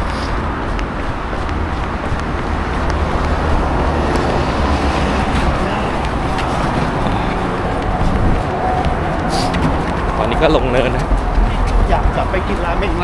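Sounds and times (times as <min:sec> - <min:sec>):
city road traffic: 0:00.0 - 0:13.0.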